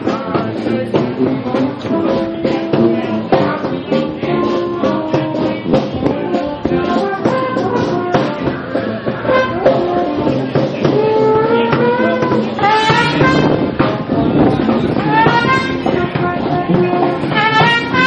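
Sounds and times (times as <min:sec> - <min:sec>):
background music with drum beat: 0:00.0 - 0:18.0.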